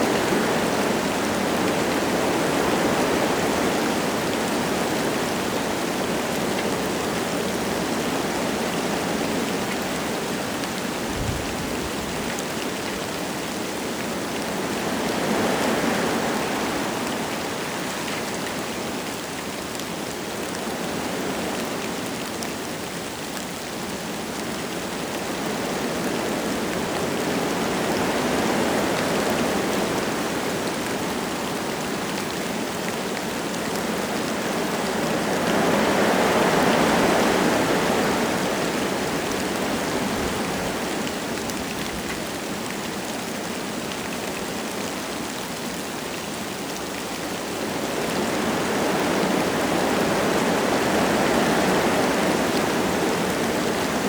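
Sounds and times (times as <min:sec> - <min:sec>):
light rain falling: 0:00.0 - 0:54.0
wind gusting through trees: 0:00.0 - 0:54.0.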